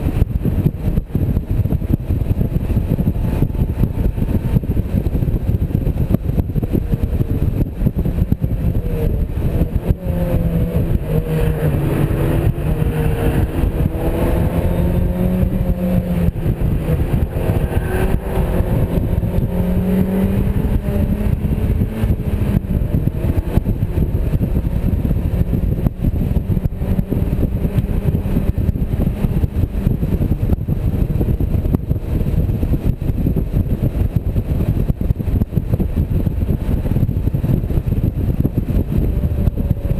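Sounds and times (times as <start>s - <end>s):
car engine running: 0.0s - 39.9s
wind rumble: 0.0s - 39.9s.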